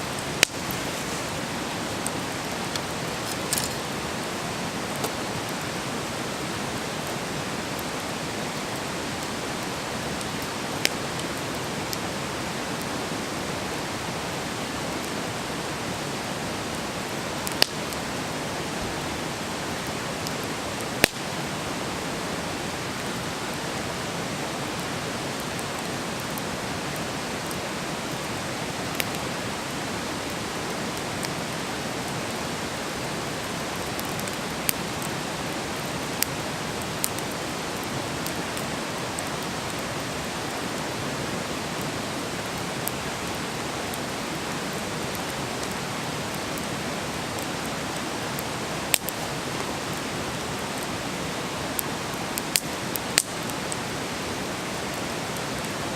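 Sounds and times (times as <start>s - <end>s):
fire pops and crackles: 0.0s - 12.1s, 14.9s - 18.3s, 18.9s - 21.5s, 24.6s - 40.9s, 41.5s - 50.8s, 51.7s - 53.8s
wood fire hissing: 0.0s - 55.9s.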